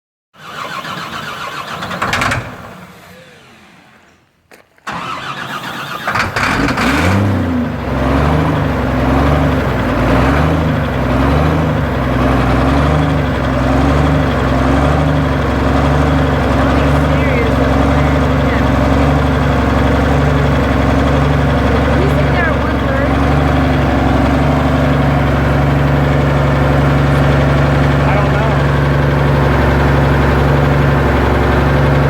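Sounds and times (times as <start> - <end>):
engine cranking: 0.4 - 32.0
tractor engine revving and idling: 0.4 - 32.0.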